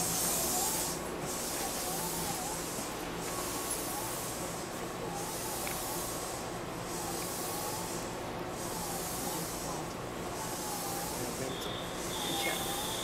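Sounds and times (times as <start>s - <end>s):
train ventilation hiss and hum: 0.0s - 13.0s.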